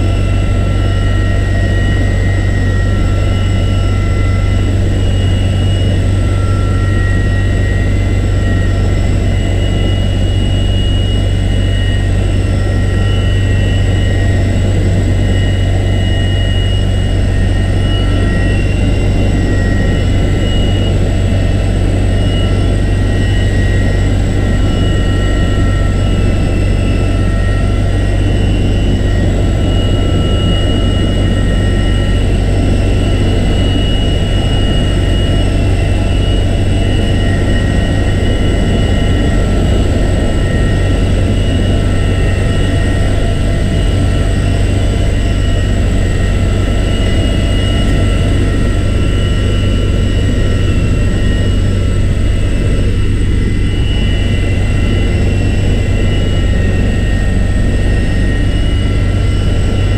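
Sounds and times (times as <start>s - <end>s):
helicopter deep rumble: 0.0s - 59.9s
high-pitched engine whines: 0.0s - 59.9s.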